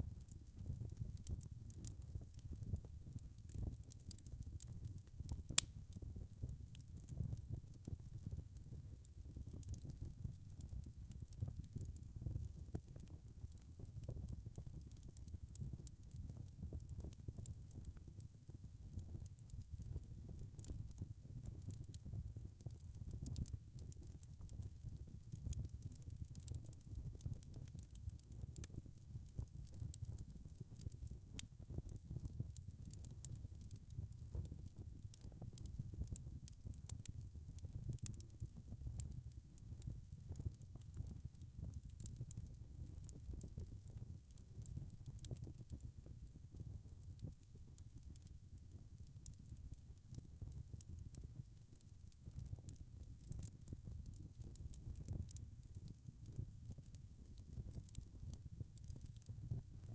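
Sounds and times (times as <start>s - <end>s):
wood fire pops and crackles: 0.0s - 48.3s, 49.0s - 59.9s
low rumble of flames: 0.0s - 59.9s.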